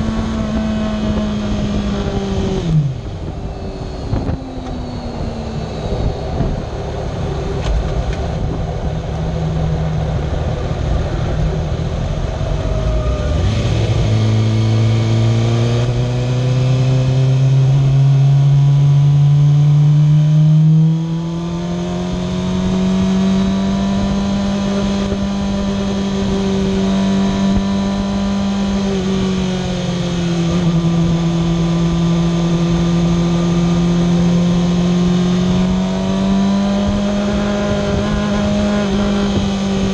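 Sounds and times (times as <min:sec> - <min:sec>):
wind noise: 0:00.0 - 0:18.6, 0:19.3 - 0:39.9
road noise: 0:00.0 - 0:39.9.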